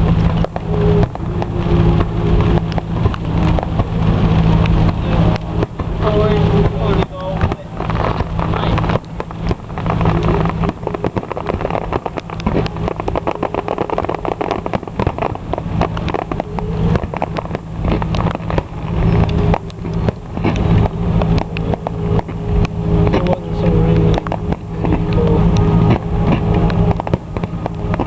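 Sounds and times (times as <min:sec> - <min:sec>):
crackling pops: 0:00.0 - 0:28.0
low engine hum: 0:00.0 - 0:28.0.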